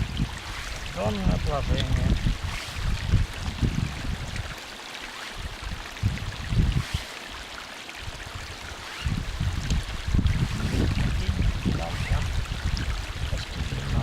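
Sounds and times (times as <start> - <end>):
small stream running: 0.0 - 14.0
wind rumbling on microphone: 0.0 - 14.0.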